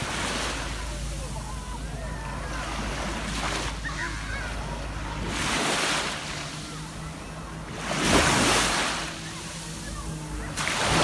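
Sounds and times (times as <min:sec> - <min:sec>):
sea waves washing on shore: 0:00.0 - 0:11.0.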